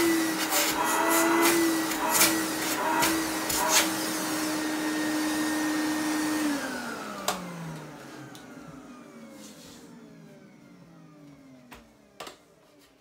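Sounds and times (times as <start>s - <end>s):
vacuum cleaner motor whining: 0.0s - 13.0s.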